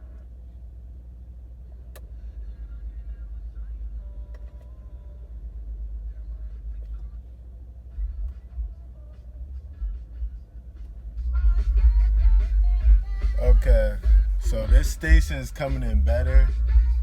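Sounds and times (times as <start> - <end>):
subwoofer deep bass: 2.0 - 4.3, 5.3 - 17.0.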